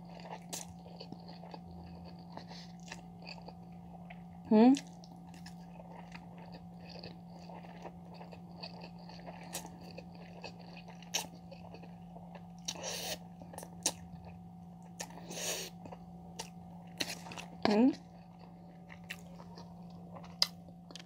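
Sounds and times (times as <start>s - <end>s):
wet chewing: 0.0s - 4.2s, 4.8s - 21.0s
faint steady hum: 0.0s - 21.0s.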